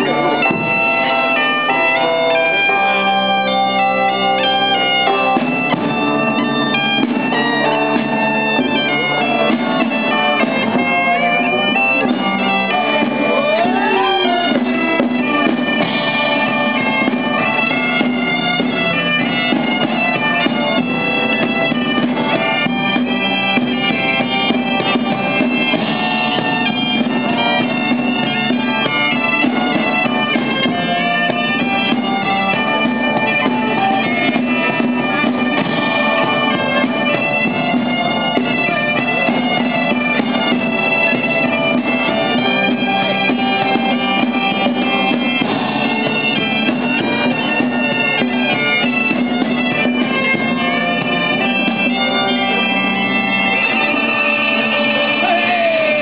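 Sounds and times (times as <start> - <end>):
bagpipes playing a lively tune: 0.0 - 56.0
drums beating: 0.0 - 56.0.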